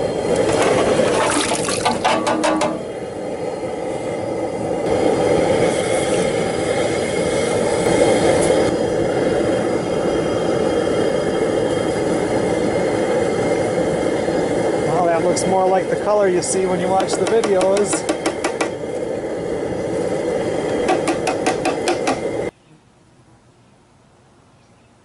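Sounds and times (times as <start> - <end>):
gas burner running: 0.0 - 22.5.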